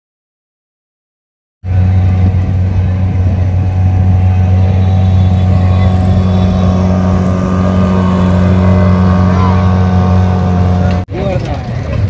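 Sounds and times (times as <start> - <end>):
outboard motor running: 1.6 - 11.6.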